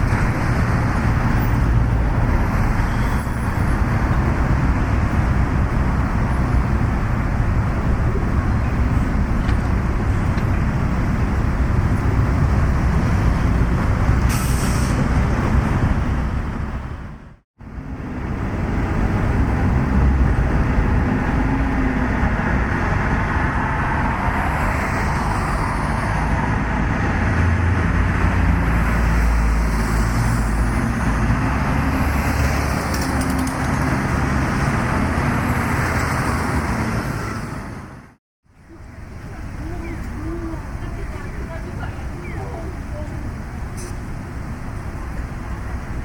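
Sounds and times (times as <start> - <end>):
road and wind noise: 0.0 - 46.0.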